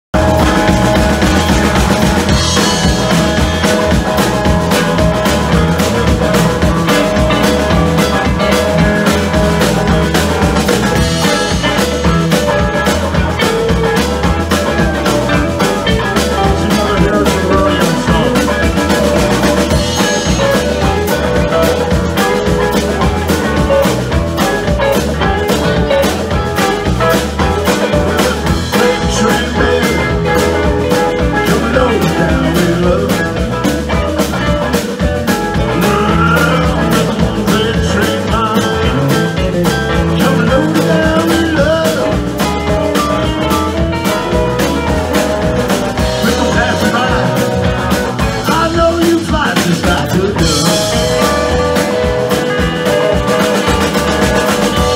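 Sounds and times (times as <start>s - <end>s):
drum kit steady beat: 0.1s - 54.9s
electric guitars: 0.1s - 54.9s
keyboard: 0.1s - 54.9s.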